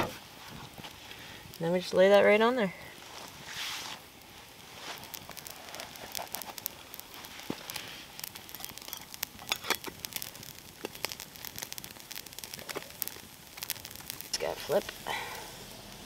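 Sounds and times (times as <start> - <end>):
crackles and pops: 0.0 - 16.0
steak sizzling on coals: 0.0 - 16.0.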